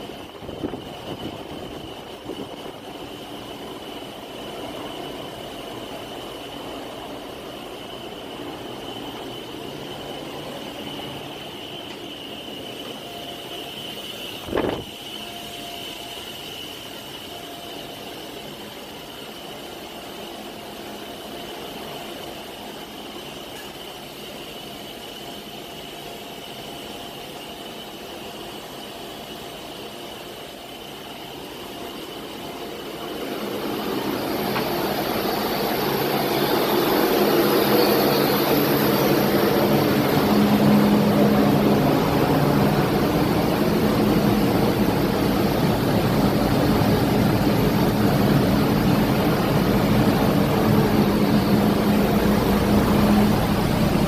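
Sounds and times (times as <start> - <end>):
high whine: 0.0 - 24.4, 25.0 - 54.0
ship engine room drone: 0.0 - 54.0.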